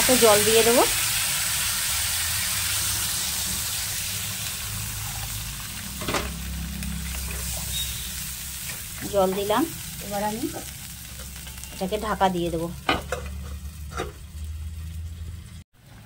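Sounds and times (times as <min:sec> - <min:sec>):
masala sizzling in a pan: 0:00.0 - 0:16.0.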